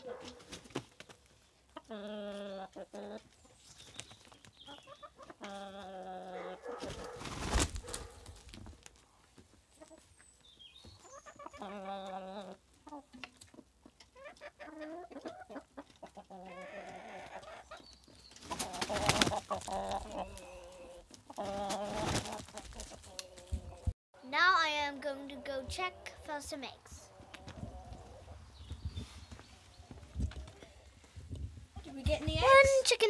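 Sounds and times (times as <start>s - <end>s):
chickens clucking: 0.0s - 23.9s, 24.7s - 32.7s.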